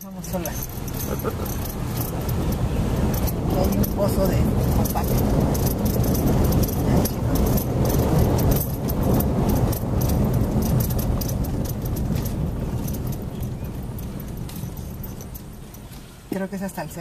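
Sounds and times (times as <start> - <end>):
car engine and tyre rumble: 0.0 - 17.0
light rattling clicks: 0.3 - 16.1.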